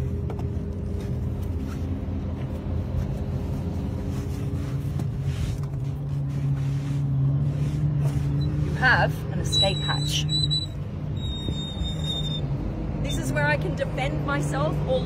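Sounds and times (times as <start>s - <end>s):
engine idling hum and rumble: 0.0s - 15.0s.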